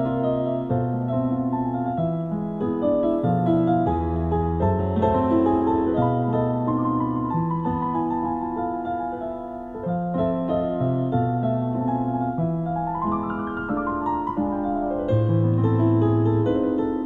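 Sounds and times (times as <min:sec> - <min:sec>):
electronic keyboard chords: 0:00.0 - 0:17.0.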